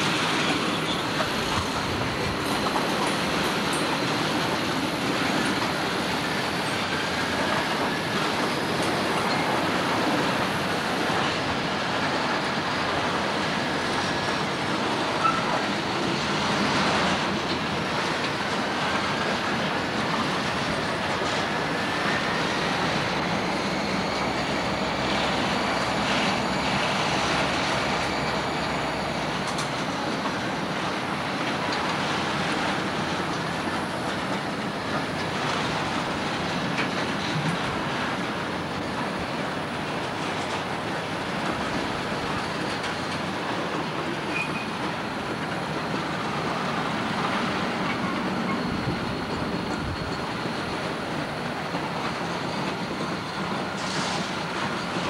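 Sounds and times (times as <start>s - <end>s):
high wheel squeals: 0.0s - 40.4s, 41.0s - 55.0s
diesel locomotive rolling on rails: 0.0s - 55.0s.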